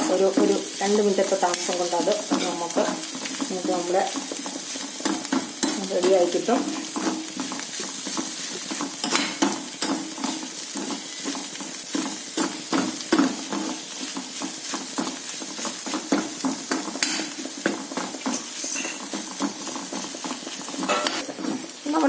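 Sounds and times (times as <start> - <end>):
spatula scraping a pan: 0.0 - 21.7
onions sizzling in oil: 0.0 - 22.0.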